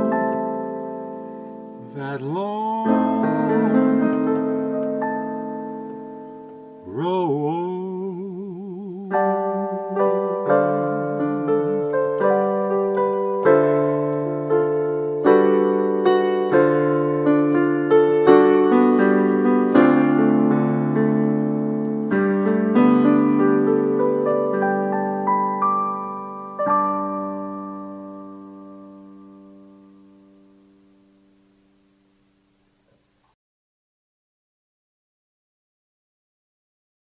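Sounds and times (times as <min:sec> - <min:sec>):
keyboard piano chords: 0:00.0 - 0:32.8.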